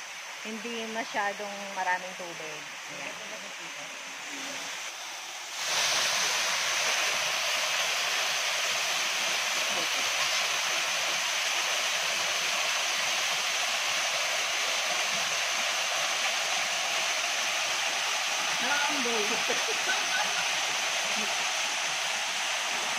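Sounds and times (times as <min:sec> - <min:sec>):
small waterfall pouring into pool: 0:00.0 - 0:22.9.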